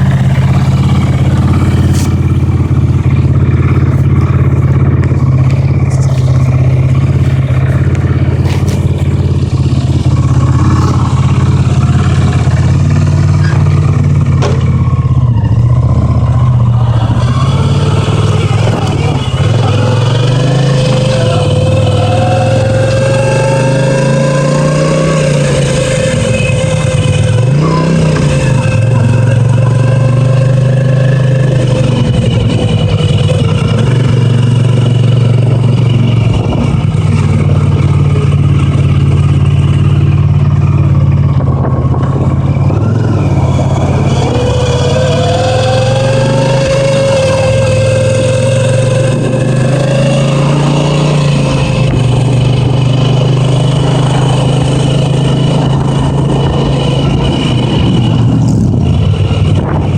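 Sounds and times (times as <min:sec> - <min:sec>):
motorcycle engine running: 0:00.0 - 0:59.9
thin gauge whine: 0:00.0 - 0:59.9.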